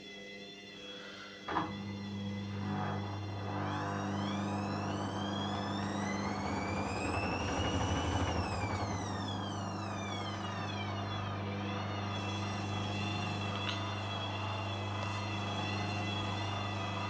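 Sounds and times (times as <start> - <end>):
steady low hum: 1.5 - 17.0
washing machine drum motor whining: 1.5 - 17.0.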